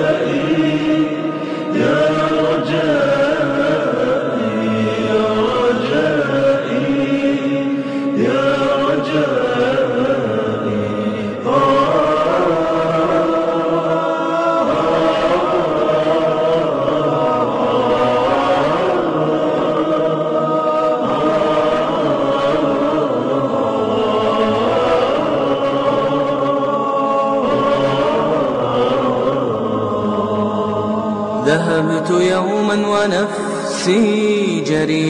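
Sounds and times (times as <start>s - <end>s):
voices chanting in chorus: 0.0s - 35.0s.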